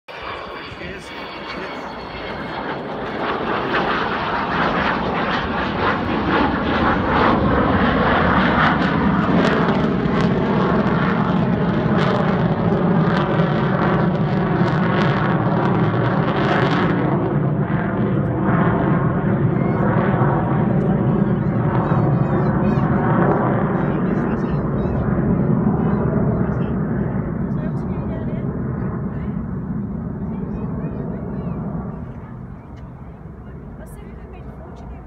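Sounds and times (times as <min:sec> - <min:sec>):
jet plane flying past: 0:00.1 - 0:35.0.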